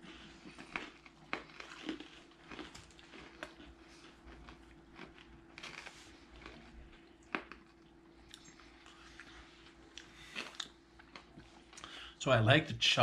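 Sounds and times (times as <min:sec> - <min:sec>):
chewing crunchy chocolate: 0:00.0 - 0:12.0
faint steady hum: 0:00.0 - 0:13.0.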